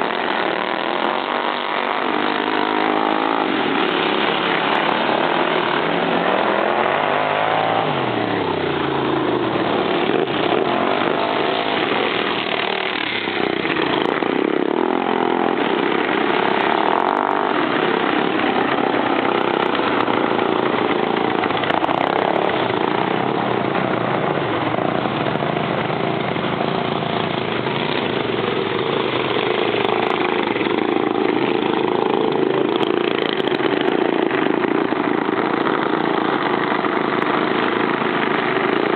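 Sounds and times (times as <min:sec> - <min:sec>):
racing lawn mower engines revving: 0:00.0 - 0:38.9.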